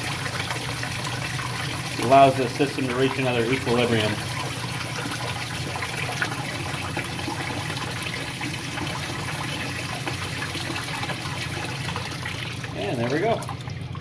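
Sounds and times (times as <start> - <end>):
water draining: 0.0 - 14.0.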